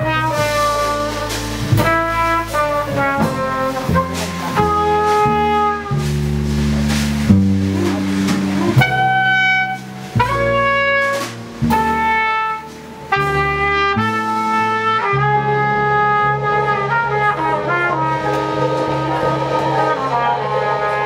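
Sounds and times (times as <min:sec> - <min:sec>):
double bass: 0:00.0 - 0:21.0
piano chords: 0:00.0 - 0:21.0
trumpet playing long notes: 0:00.0 - 0:21.0.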